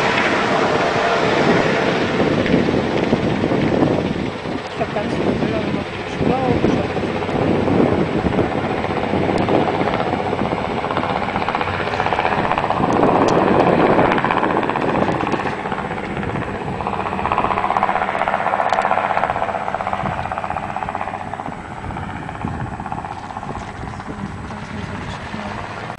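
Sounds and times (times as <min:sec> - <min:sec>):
helicopter rotor beating: 0:00.0 - 0:25.9.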